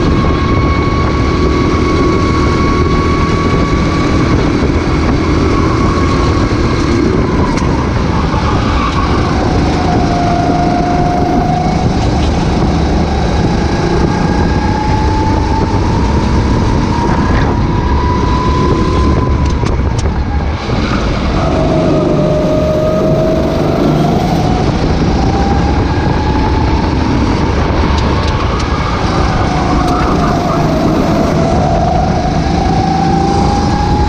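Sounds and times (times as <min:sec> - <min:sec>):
racing kart engine: 0:00.0 - 0:34.0
steady rush of noise: 0:00.0 - 0:34.0.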